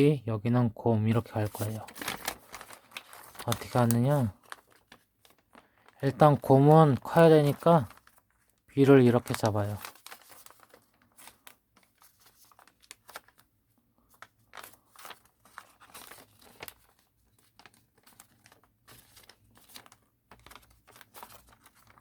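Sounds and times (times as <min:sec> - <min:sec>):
paper crinkling being folded: 0:00.0 - 0:22.0.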